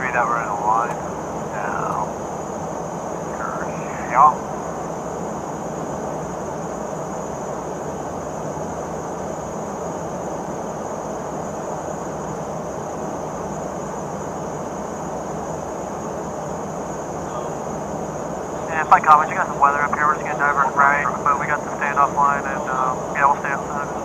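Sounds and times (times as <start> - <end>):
aircraft cabin engine hum: 0.0 - 24.0
high-pitched whine: 0.0 - 24.0.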